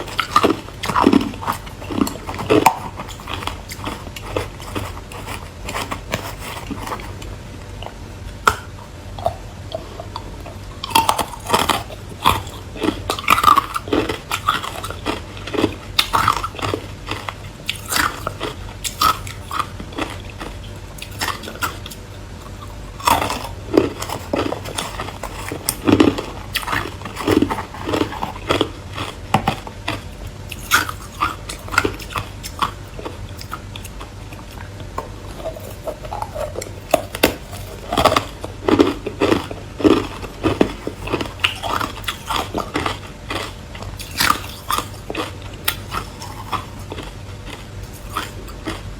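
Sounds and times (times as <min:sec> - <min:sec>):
crunching ice while chewing: 0:00.0 - 0:48.9.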